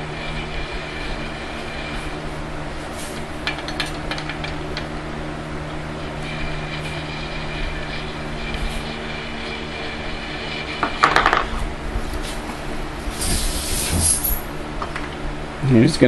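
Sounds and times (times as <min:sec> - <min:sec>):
workshop machinery hum: 0:00.0 - 0:16.0.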